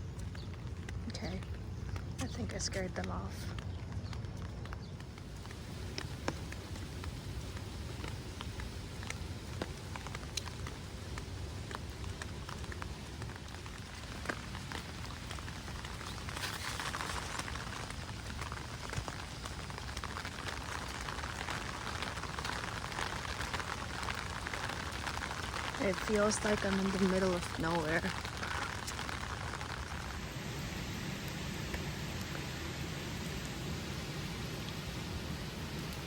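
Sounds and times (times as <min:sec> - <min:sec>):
rain falling: 0:00.0 - 0:36.0
raindrop ticks: 0:00.0 - 0:36.0.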